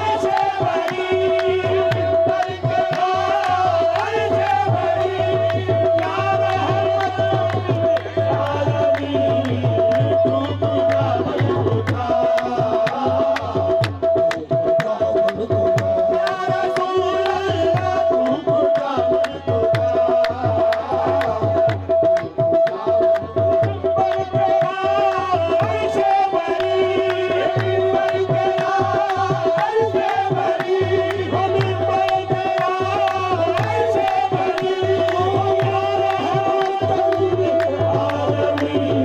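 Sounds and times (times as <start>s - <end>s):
held harmonium note: 0.0s - 12.2s, 13.6s - 39.0s
tabla rhythm: 0.0s - 39.0s.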